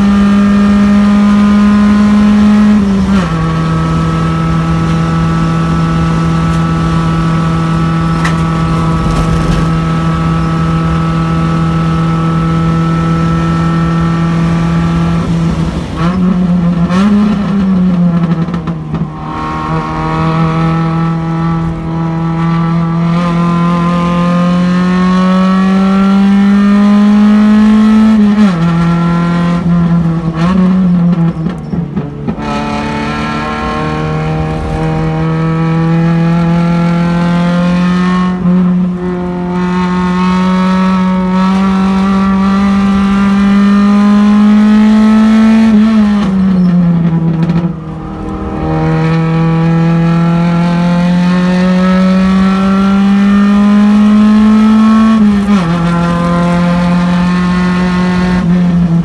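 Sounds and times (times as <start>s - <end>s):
race car engine under load: 0.0s - 59.0s.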